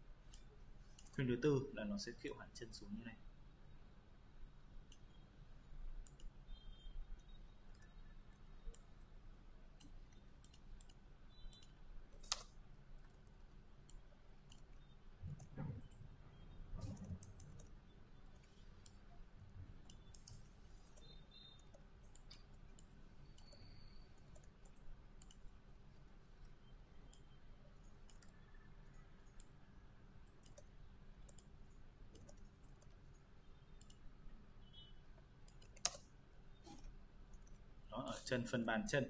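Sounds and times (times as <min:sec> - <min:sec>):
computer mouse clicks: 0:00.3 - 0:01.2, 0:04.8 - 0:05.2, 0:06.0 - 0:09.2, 0:09.8 - 0:16.1, 0:16.8 - 0:34.1, 0:35.2 - 0:38.3.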